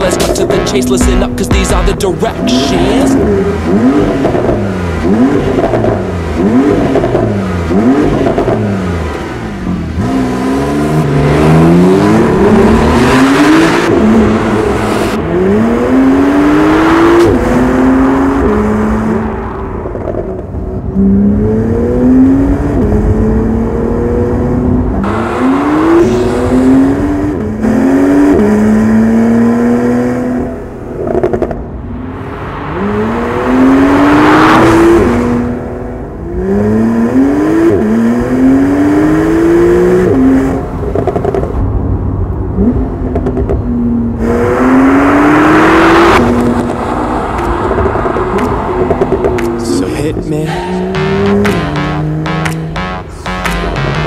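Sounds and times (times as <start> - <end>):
engine revving: 0.0 - 41.5, 44.2 - 54.0
car engine accelerating through gears: 0.0 - 54.0.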